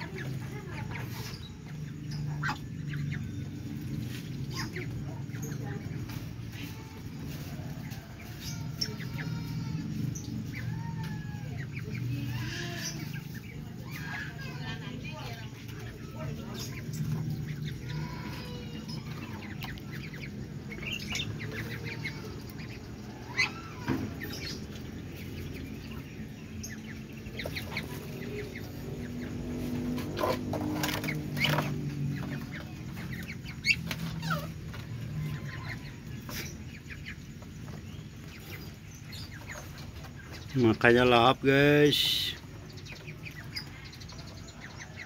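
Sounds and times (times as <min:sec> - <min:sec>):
duckling bills pecking and clicking: 0:00.0 - 0:40.8
ducklings peeping: 0:00.0 - 0:45.0.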